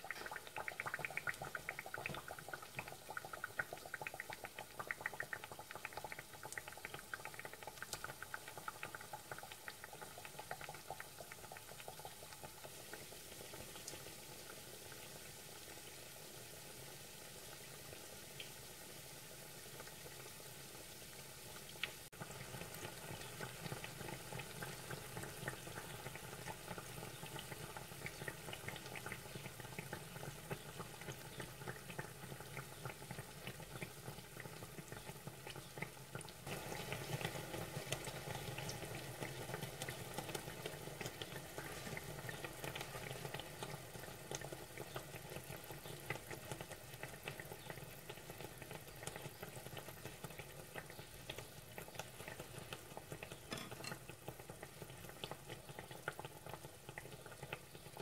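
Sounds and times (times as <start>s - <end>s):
dough deep-frying in oil: 0.0s - 58.0s.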